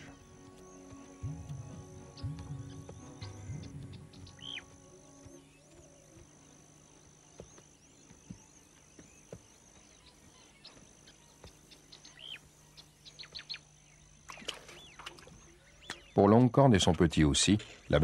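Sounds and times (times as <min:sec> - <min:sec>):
bird chirps: 0:00.0 - 0:16.2
low hum: 0:00.0 - 0:16.2.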